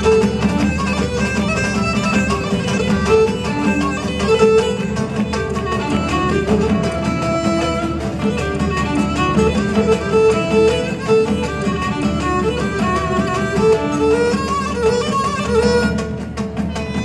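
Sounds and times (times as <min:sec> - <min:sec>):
bowed lyra melody: 0:00.0 - 0:17.0
plucked lute accompaniment: 0:00.0 - 0:17.0.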